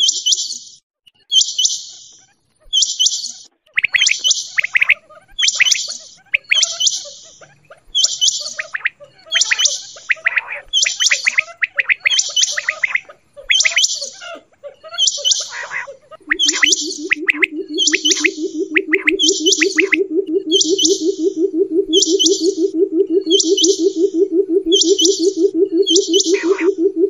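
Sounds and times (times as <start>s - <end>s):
quail calling: 1.3s - 27.0s
lower falling chirps: 2.7s - 27.0s.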